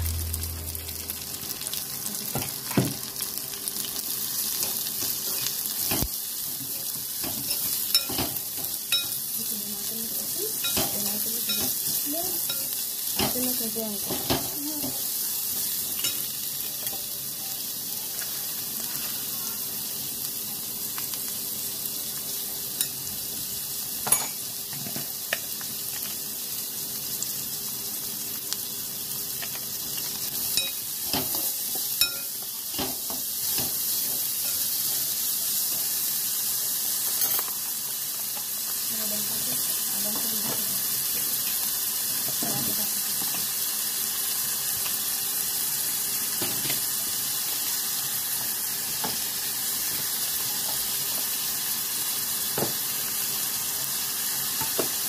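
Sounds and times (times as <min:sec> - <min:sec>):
vegetables sizzling in a wok: 0:00.0 - 0:55.0.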